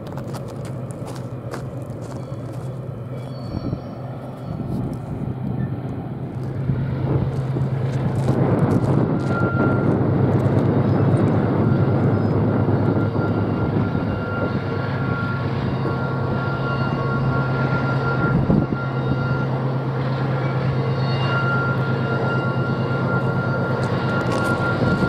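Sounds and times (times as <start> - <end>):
locomotive engine drone: 0.0 - 25.0.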